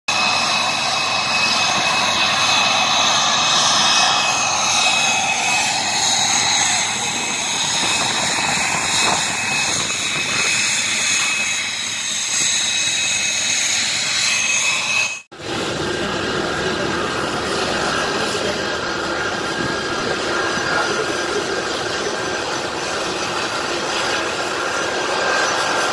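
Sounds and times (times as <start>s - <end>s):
turbine engine whine: 0.1s - 25.9s.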